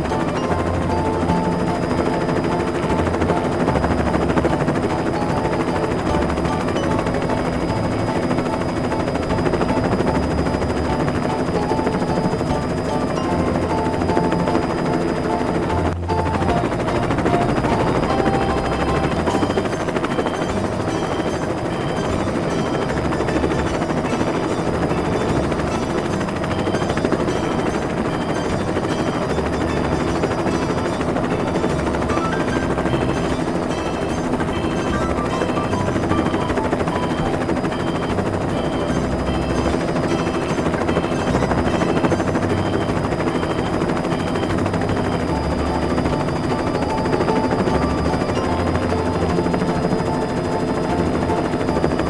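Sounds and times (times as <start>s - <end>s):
helicopter rotor chopping: 0.0s - 52.0s.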